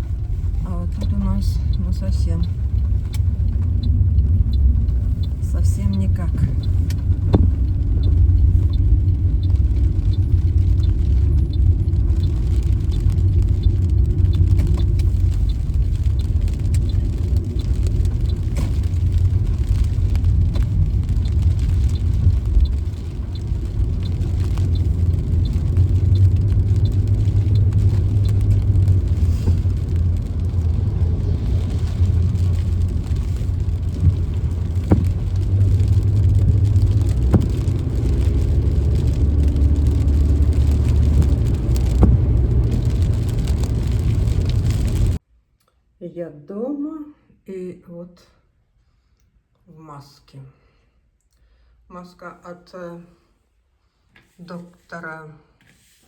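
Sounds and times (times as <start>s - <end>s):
car cabin road and engine rumble: 0.0s - 45.2s.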